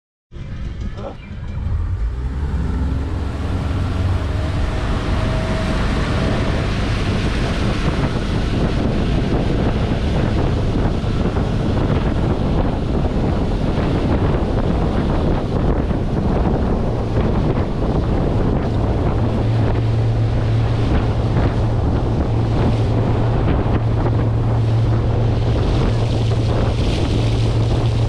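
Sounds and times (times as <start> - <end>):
outboard motor running: 1.6 - 28.0
wind buffeting microphone: 1.6 - 28.0
water churning: 2.0 - 28.0.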